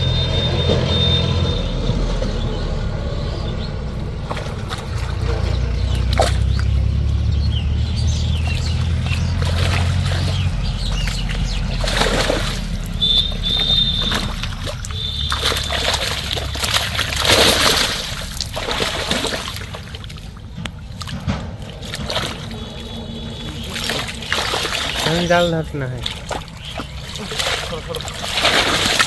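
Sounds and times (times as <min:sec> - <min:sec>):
water splashing and sloshing: 0:03.8 - 0:29.0.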